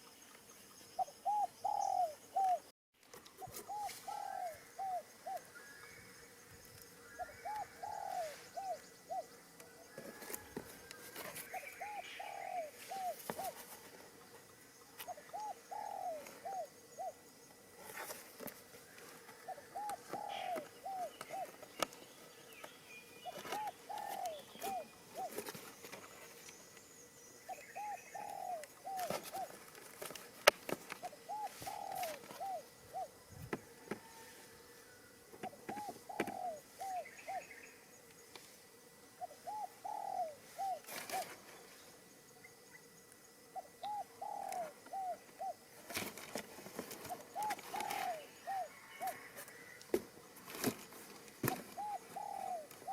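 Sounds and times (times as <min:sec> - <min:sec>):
dove cooing: 0:01.0 - 0:02.7, 0:03.4 - 0:05.5, 0:07.0 - 0:18.2, 0:18.8 - 0:21.9, 0:23.2 - 0:26.1, 0:27.5 - 0:37.7, 0:39.2 - 0:41.5, 0:43.5 - 0:49.8, 0:50.5 - 0:52.9.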